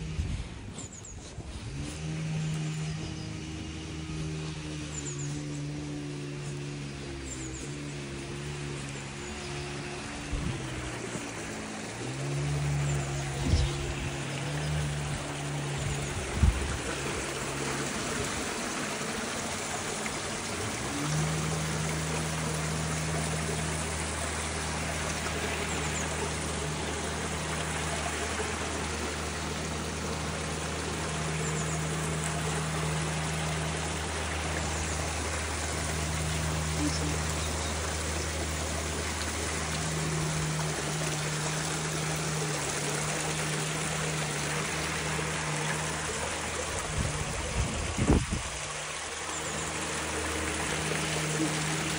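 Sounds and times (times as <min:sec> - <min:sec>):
stream trickling over stones: 0:00.0 - 0:51.9.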